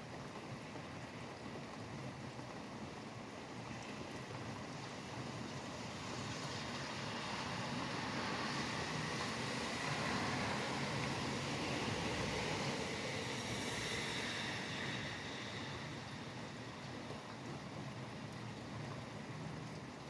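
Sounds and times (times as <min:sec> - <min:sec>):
highway traffic on wet road: 0:00.0 - 0:20.0
steady rain: 0:00.0 - 0:20.0.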